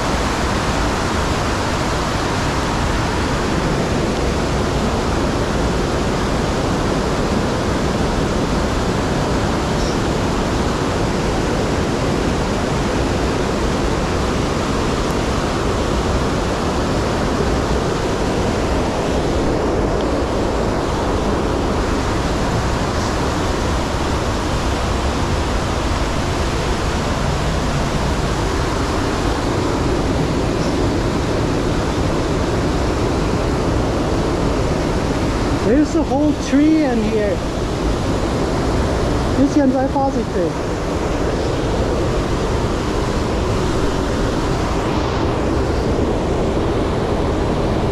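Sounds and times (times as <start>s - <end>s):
rush of running water: 0.0s - 47.9s.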